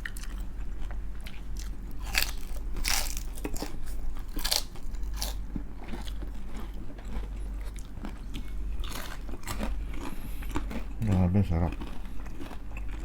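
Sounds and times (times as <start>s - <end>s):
crunching fried chicken skin: 0.0s - 13.0s.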